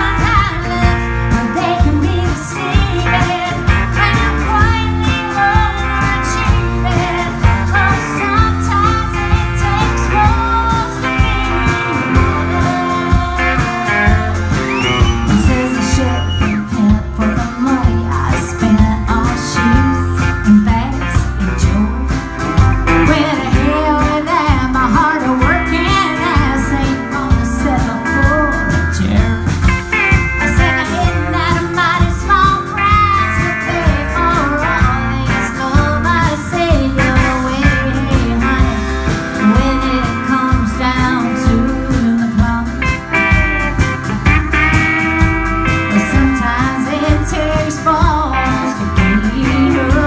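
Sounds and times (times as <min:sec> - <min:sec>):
country-rock band playing: 0:00.0 - 0:50.0.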